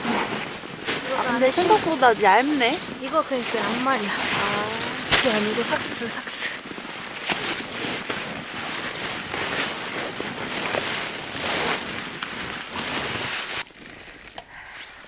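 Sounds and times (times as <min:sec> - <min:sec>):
nylon booties rustling: 0:00.0 - 0:15.0.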